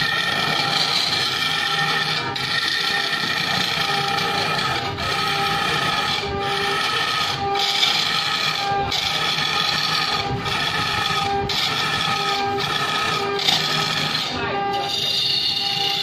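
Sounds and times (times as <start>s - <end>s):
wood lathe gouge scraping log: 0.0s - 16.0s.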